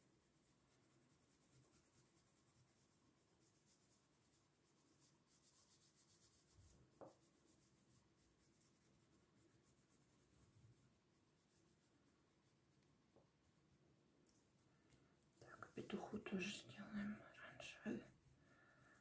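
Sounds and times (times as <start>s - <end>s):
oil pastel scratching on paper: 0.0s - 19.0s.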